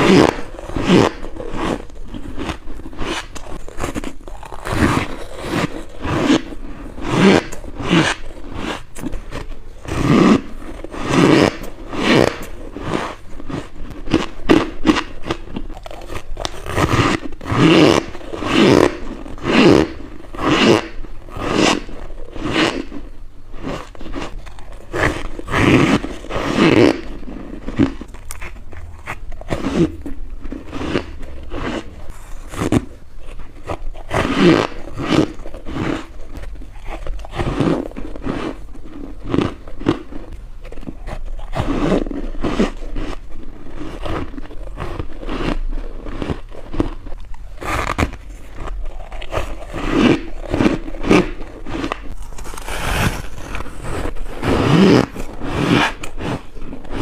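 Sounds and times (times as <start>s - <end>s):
biting and crunching frost: 0.0s - 57.0s.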